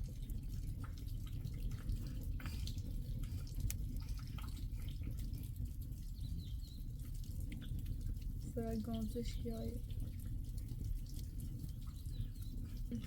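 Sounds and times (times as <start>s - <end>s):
constant low rumble: 0.0s - 13.0s
drops dripping and tapping: 0.0s - 13.0s
rain falling: 0.0s - 13.0s.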